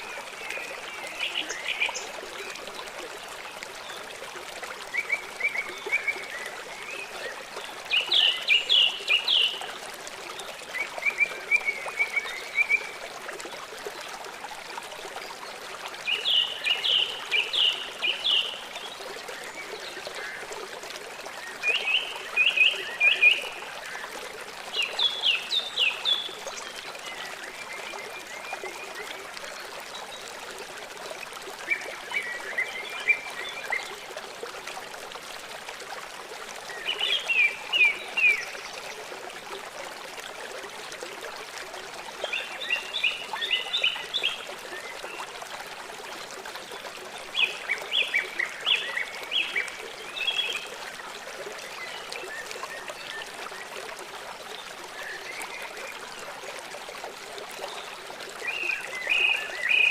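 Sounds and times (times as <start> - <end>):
trickle of running water: 0.0 - 59.9.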